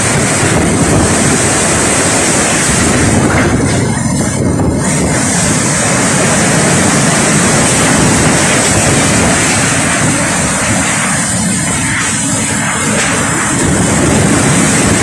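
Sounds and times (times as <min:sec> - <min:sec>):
wind and rain rushing through trees: 0:00.0 - 0:15.0.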